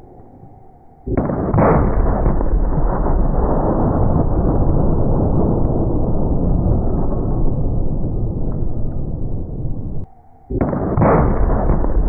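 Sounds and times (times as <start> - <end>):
slowed gunshot boom and roar: 1.0 - 12.0.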